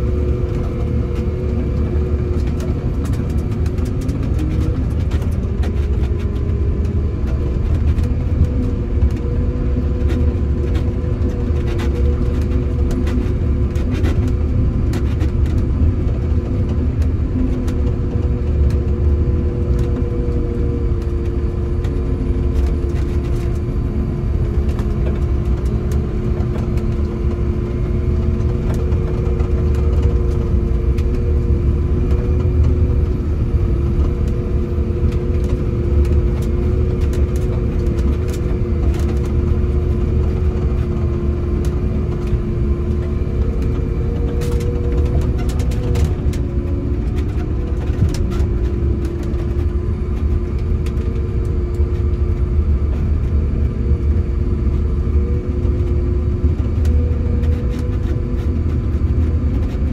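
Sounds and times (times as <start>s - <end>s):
snowcat diesel engine rumble: 0.0s - 59.9s
steady mid-pitched whine: 0.0s - 59.9s.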